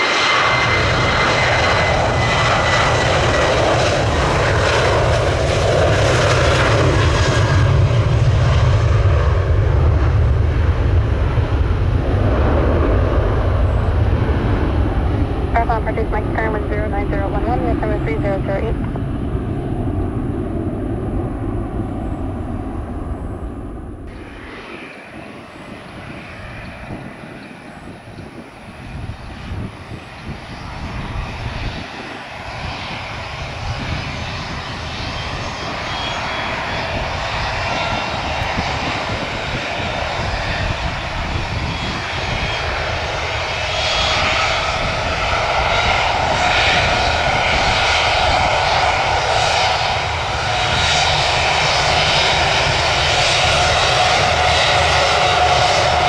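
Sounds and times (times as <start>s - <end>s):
high engine whine: 0.0s - 56.0s
jet engines at takeoff thrust: 0.0s - 56.0s.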